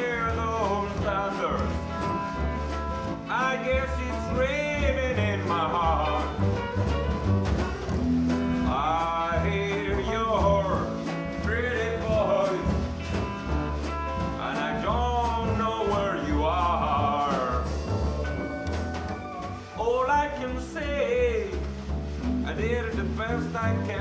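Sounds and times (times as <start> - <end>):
acoustic blues band playing: 0.0 - 24.0.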